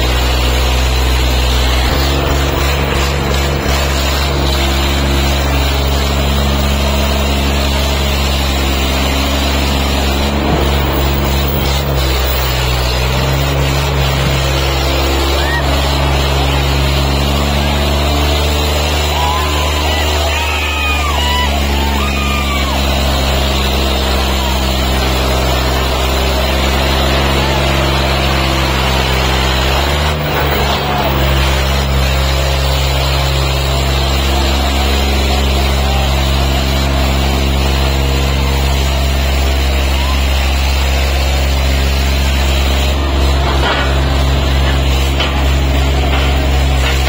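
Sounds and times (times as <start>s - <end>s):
crowd shouting: 0.0s - 47.0s
tractor diesel engines under load: 0.0s - 47.0s.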